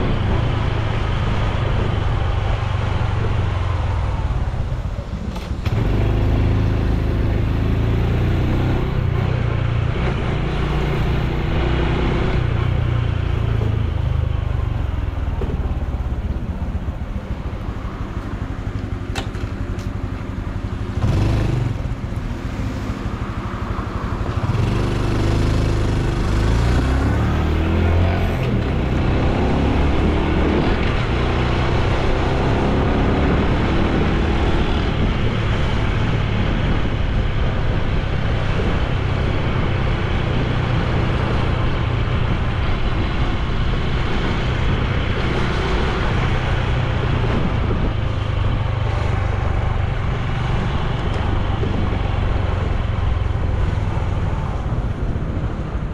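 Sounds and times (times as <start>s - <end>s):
motorcycle engine while riding: 0.0s - 55.9s.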